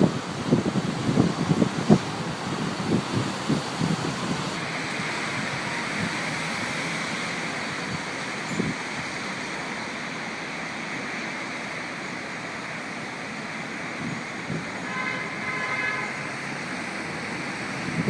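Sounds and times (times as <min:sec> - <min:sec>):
windstorm with rain: 0:00.0 - 0:18.0.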